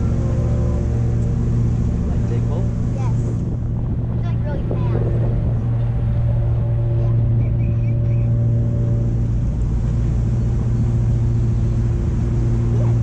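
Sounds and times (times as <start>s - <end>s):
boat engines droning: 0.0s - 13.0s.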